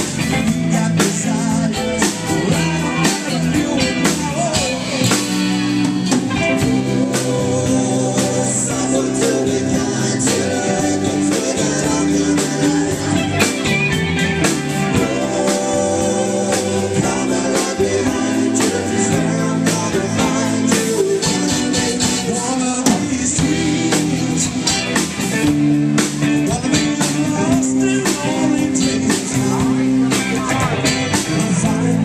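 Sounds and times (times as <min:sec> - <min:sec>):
man singing: 0:00.0 - 0:25.4, 0:26.2 - 0:32.0
drum kit steady beat: 0:00.0 - 0:32.0
keyboard chords: 0:00.0 - 0:32.0.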